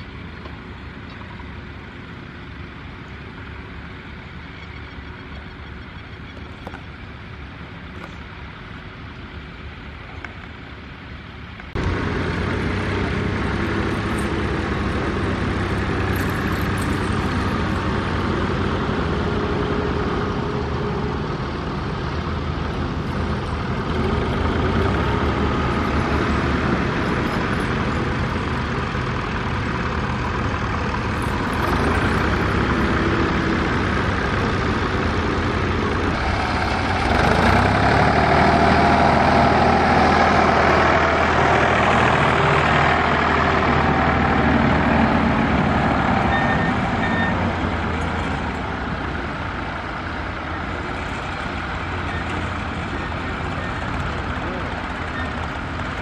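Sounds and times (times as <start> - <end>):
tractor diesel engines running: 0.0 - 56.0.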